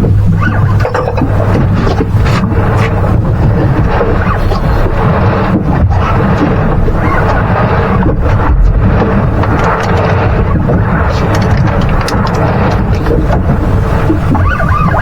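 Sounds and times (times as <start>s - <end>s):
boat on choppy water: 0.0s - 15.0s
wind rumbling on microphone: 0.0s - 15.0s.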